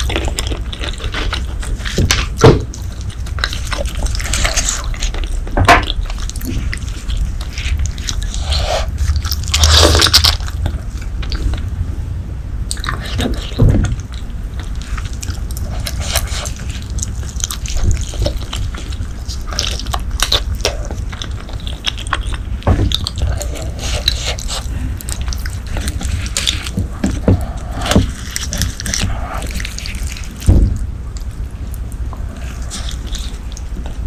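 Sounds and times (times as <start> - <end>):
wet chewing: 0.0 - 34.0.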